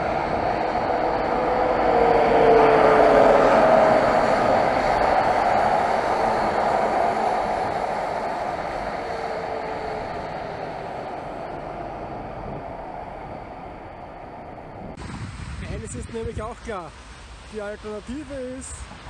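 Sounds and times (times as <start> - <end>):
traffic on wet street: 0.0 - 15.7, 16.7 - 19.0.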